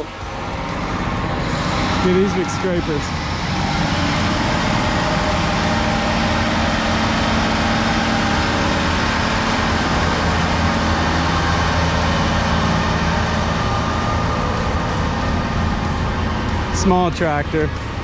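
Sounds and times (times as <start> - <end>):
large diesel engine running: 0.0 - 18.0.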